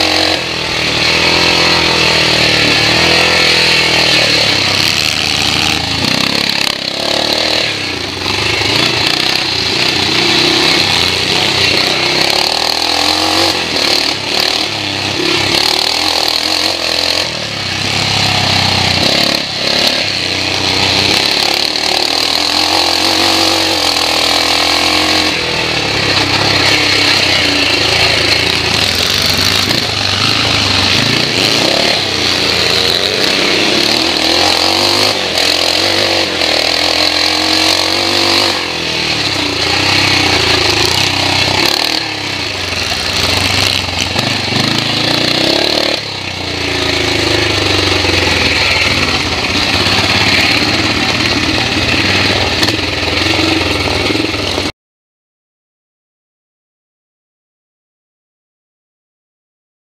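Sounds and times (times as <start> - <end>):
motorcycle engine revving: 0.0 - 54.7.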